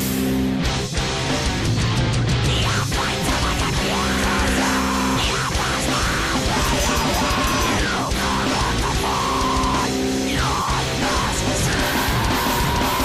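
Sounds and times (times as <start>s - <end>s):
heavy metal music: 0.0s - 13.0s.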